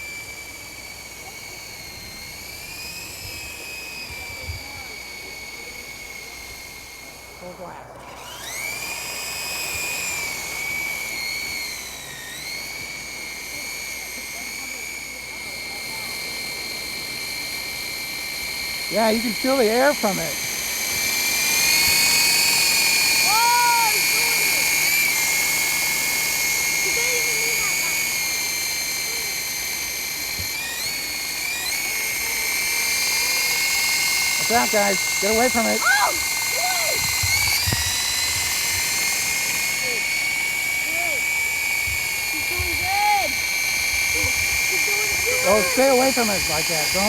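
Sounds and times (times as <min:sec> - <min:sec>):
toy helicopter motor whine: 0:00.0 - 0:47.0.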